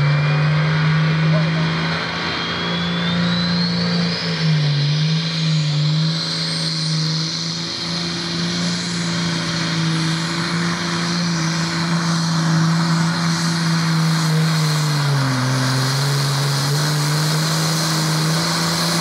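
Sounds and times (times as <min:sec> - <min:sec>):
high rising whine: 0:00.0 - 0:19.0
tractor engine running hard: 0:00.0 - 0:19.0.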